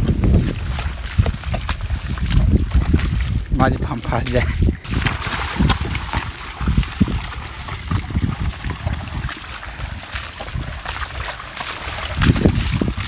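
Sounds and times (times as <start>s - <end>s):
muddy water sloshing and splashing: 0.0s - 13.0s.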